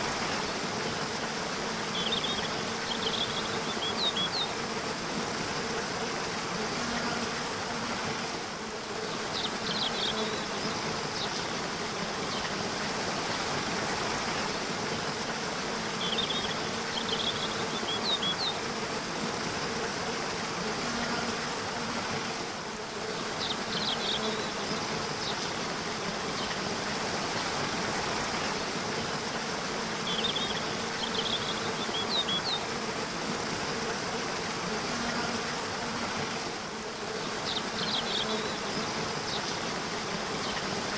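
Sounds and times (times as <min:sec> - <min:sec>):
flying insect buzzing: 0:00.0 - 0:40.9.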